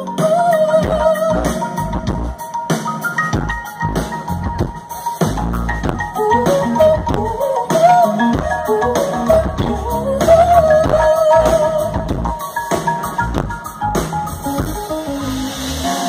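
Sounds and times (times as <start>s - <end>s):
live pop-rock band playing: 0.0s - 16.0s.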